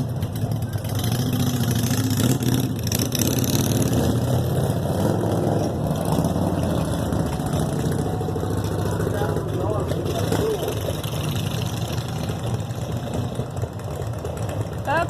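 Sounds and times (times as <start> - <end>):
motorcycle engines rumbling: 0.0 - 15.0.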